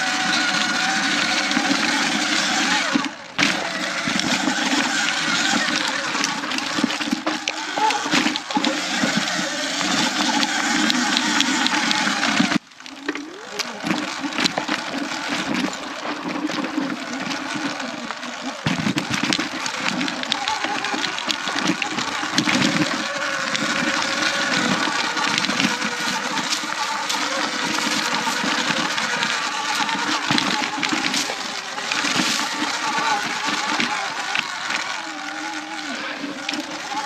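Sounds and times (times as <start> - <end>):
bike rattling and knocking: 0.0 - 37.0
electric motor whine: 0.0 - 37.0.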